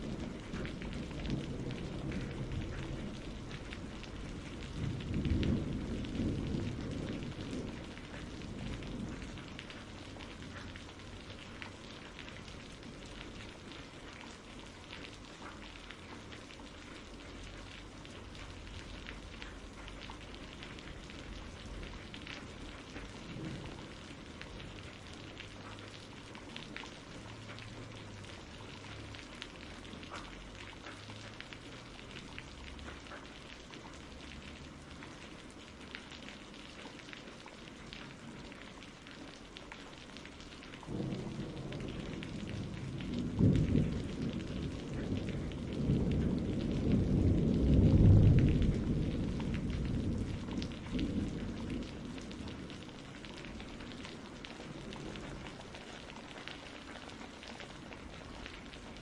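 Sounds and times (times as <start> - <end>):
thunder rumbling: 0.0 - 14.6, 15.4 - 33.1, 40.7 - 59.0
steady rain: 0.0 - 59.0.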